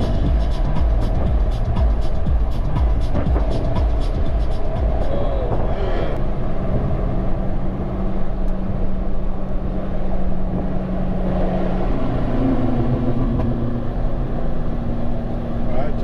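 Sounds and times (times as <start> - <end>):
car engine running: 0.0 - 16.0
road and wind noise: 0.0 - 16.0.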